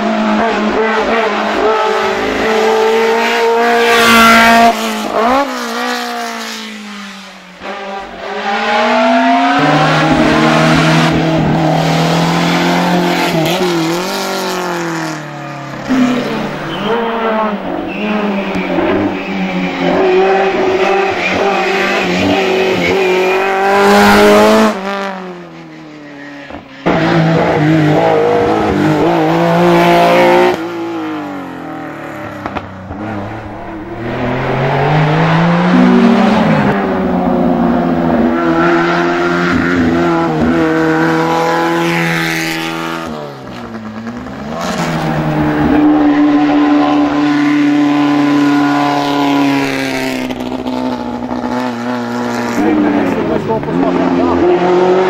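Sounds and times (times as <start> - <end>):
racing cars revving past: 0.0 - 25.6, 26.5 - 55.0.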